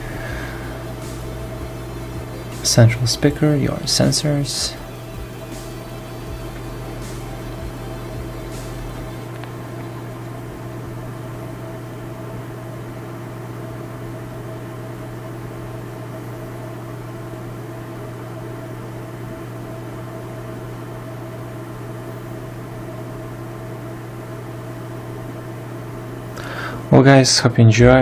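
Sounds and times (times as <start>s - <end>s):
mechanical hum: 0.0s - 28.0s.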